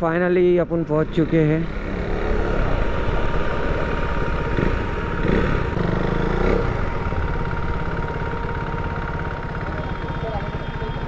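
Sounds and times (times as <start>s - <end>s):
motorcycle engine idling: 0.1s - 11.0s.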